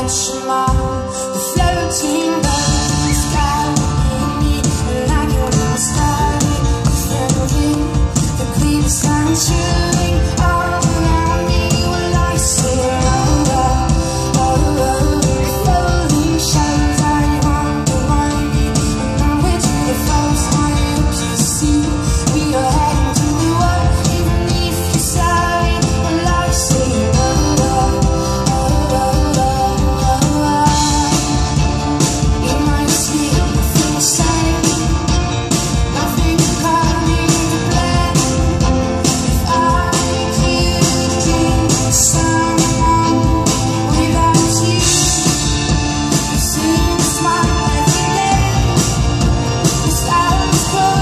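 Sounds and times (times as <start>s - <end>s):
drum kit with cymbals: 0.0s - 51.0s
piano: 0.0s - 51.0s
woman singing: 0.0s - 51.0s.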